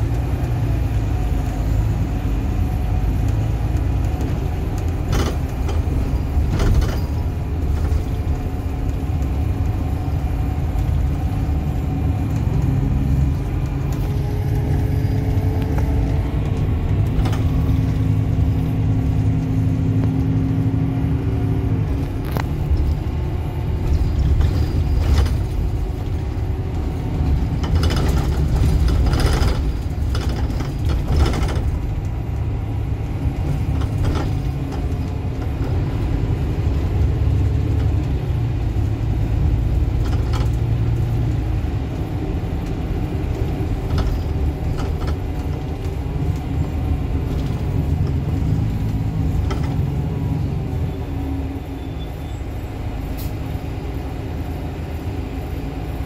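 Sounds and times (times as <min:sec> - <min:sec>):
bus engine low rumble: 0:00.0 - 0:56.0
sharp rattles and knocks: 0:03.2 - 0:20.3, 0:22.0 - 0:50.4.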